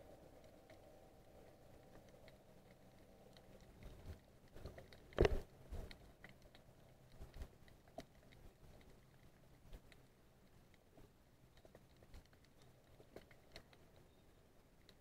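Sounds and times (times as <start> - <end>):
sharp underwater clicks: 0.1 - 15.0.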